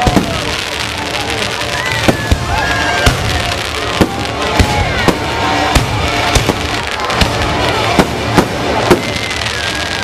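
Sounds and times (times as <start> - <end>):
fireworks bursting with sharp bangs: 0.0 - 10.0
fireworks crackle and hiss: 0.0 - 10.0.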